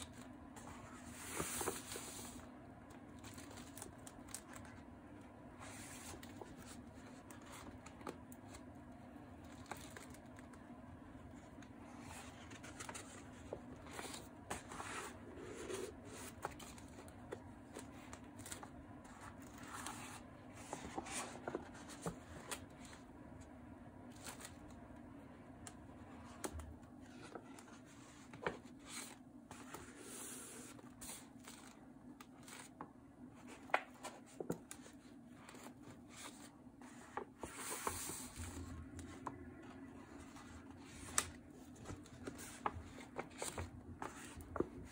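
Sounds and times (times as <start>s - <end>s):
paper pages rustling and crinkling: 0.0s - 25.1s, 25.7s - 44.9s.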